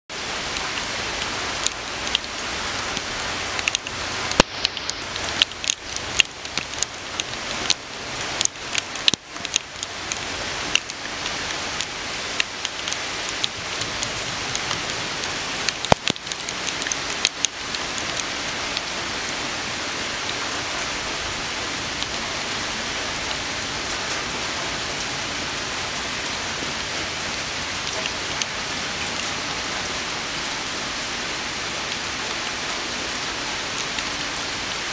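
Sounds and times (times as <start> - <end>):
rain hiss: 0.1 - 34.9
sharp ticks of raindrops: 0.1 - 34.9.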